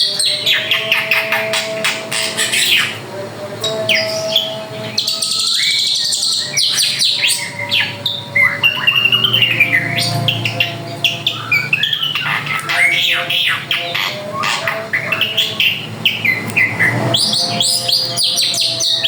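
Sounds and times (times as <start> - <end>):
drongo singing: 0.0 - 19.0.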